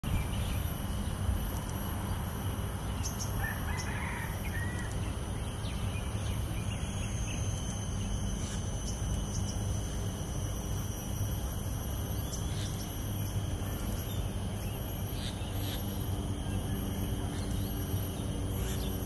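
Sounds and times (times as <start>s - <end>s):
high insect drone: 0.0s - 19.0s
faint bird chirps: 1.9s - 19.0s.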